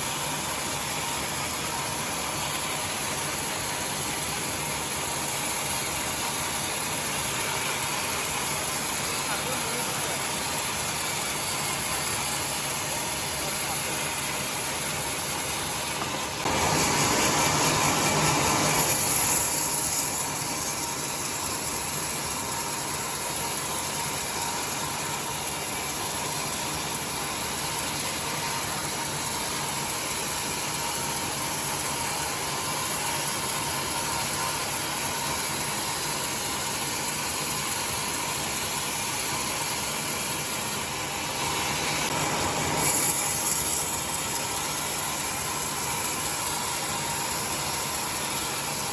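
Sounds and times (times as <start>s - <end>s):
sawmill saw cutting timber: 0.0s - 48.9s.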